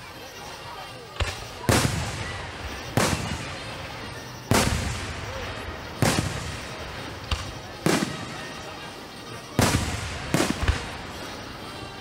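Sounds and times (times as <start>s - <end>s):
fireworks bangs with echoing rumble: 1.2s - 11.6s.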